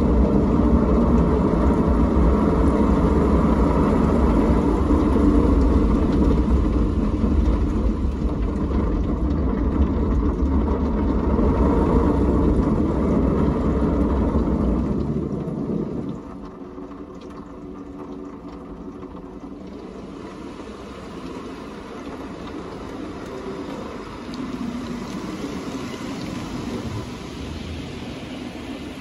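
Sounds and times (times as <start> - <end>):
car wash machine rumbling whir: 0.0 - 29.0.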